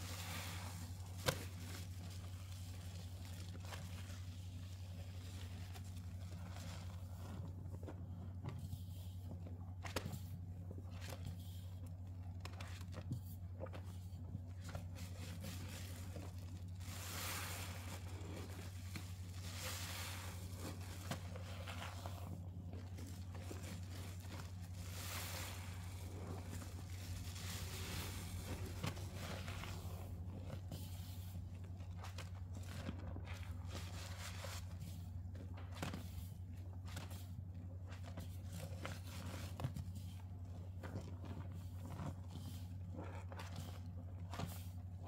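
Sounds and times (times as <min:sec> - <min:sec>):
soapy sponge squelching: 0:00.0 - 0:08.4, 0:09.8 - 0:45.0
steady low hum: 0:00.0 - 0:45.0.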